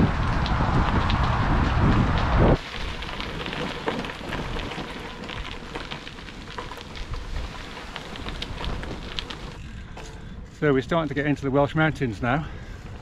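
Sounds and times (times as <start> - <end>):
wind buffeting microphone: 0.0 - 11.7
bicycle tyres crackling on rough path: 0.0 - 13.0.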